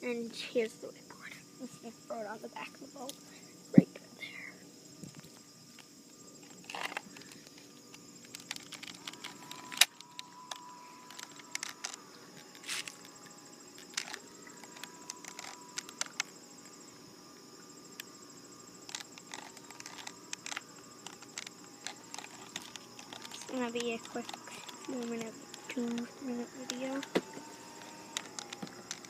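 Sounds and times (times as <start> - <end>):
small electric motor whining: 1.1 - 29.0.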